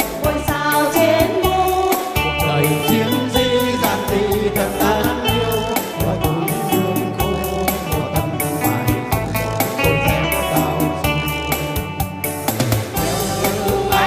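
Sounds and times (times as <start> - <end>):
group singing into microphones: 0.0 - 12.2, 12.9 - 14.0
amplified backing music: 0.0 - 14.0.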